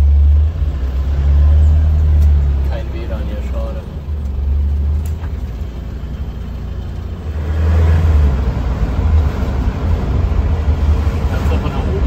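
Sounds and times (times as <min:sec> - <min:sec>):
engine and road noise: 0:00.0 - 0:12.0.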